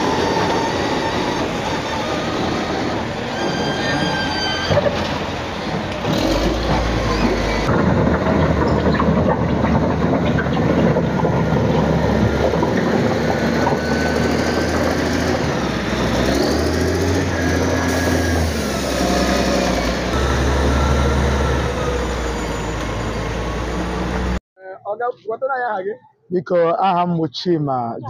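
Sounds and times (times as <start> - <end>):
diesel engine running under load: 0.0 - 24.4
loader pushing earth: 0.0 - 24.4.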